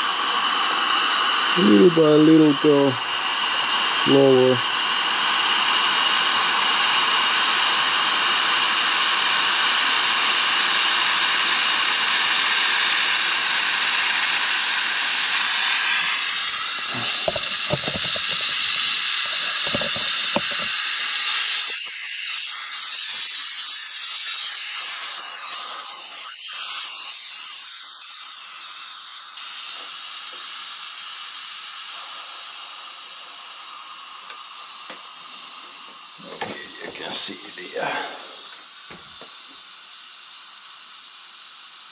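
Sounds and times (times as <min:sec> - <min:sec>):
compressed air hissing: 0:00.0 - 0:41.9.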